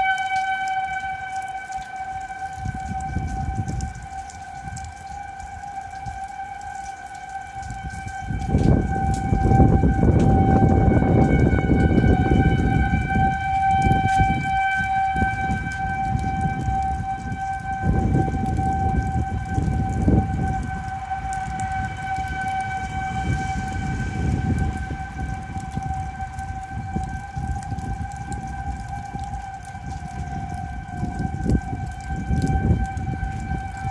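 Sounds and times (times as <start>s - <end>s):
warning siren steady tone: 0.0s - 33.9s.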